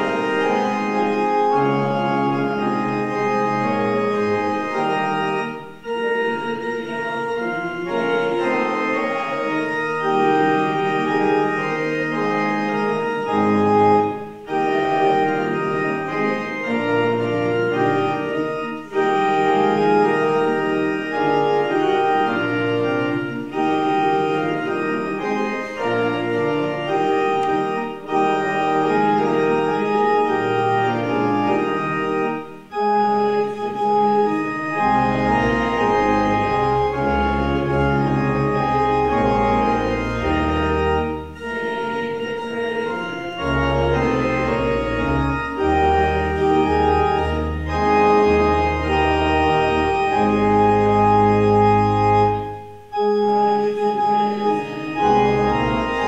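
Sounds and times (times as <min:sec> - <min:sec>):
church organ chords: 0:00.0 - 0:56.0
deep organ pedal bass notes: 0:00.0 - 0:56.0.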